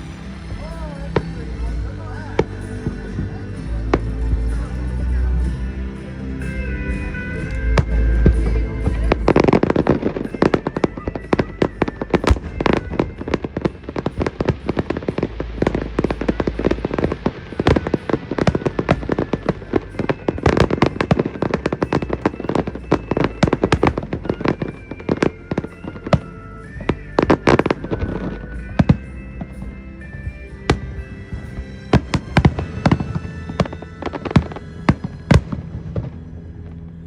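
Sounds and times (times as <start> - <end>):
fireworks bangs and crackles: 0.0 - 37.0
music: 0.0 - 37.0.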